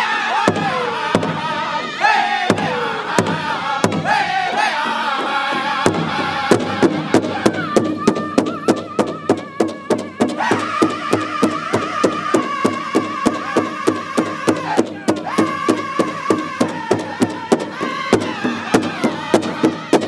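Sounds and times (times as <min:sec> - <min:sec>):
drum group singing: 0:00.0 - 0:20.0
sticks striking large drum: 0:02.5 - 0:20.0.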